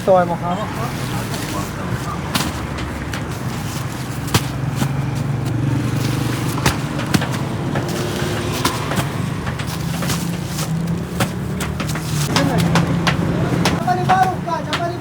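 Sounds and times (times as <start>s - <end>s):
sharp knocks: 2.1s - 15.0s.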